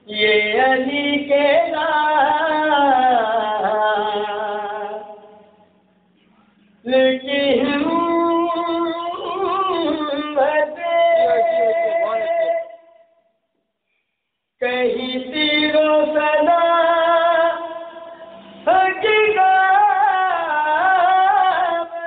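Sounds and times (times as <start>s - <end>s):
man singing unaccompanied: 0.0s - 5.6s, 6.8s - 13.2s, 14.6s - 22.0s.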